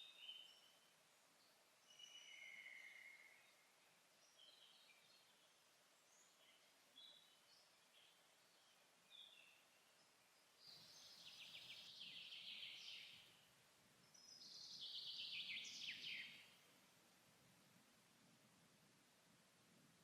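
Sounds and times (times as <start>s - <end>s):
songbird chirping and trilling: 0.0s - 16.8s.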